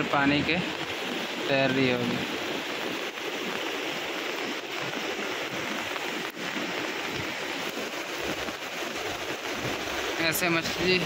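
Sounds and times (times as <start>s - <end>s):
rain falling on water: 0.0s - 11.0s.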